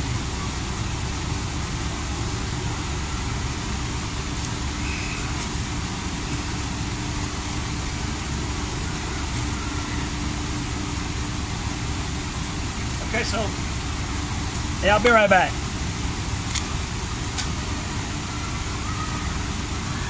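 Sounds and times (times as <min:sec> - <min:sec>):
engine idling rumble: 0:00.0 - 0:20.0.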